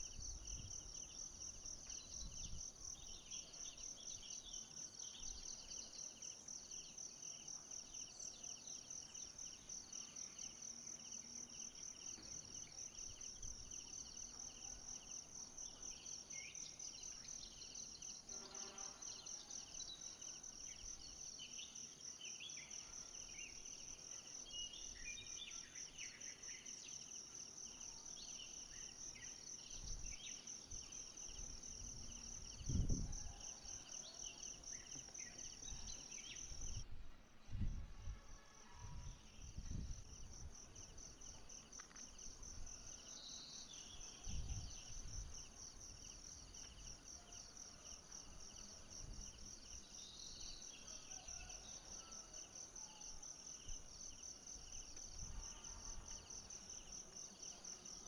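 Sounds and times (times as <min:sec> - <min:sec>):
lower pulsing insect call: 0:00.0 - 0:58.0.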